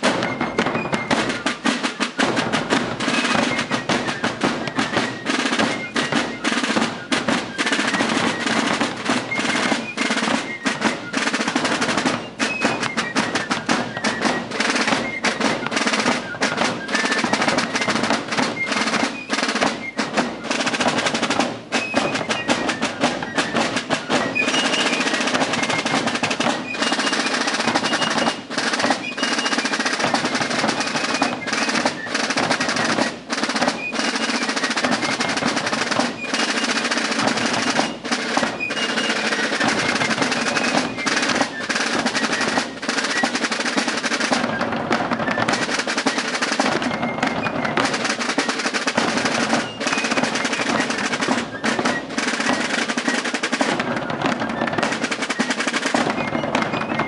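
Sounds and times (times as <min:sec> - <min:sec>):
fifes playing shrill melody: 0:00.0 - 0:57.0
snare drum rolls: 0:00.0 - 0:57.0.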